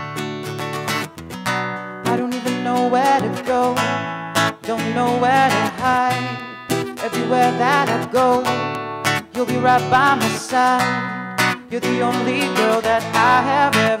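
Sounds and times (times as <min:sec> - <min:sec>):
acoustic guitar strumming: 0:00.0 - 0:14.0
man singing: 0:02.0 - 0:14.0.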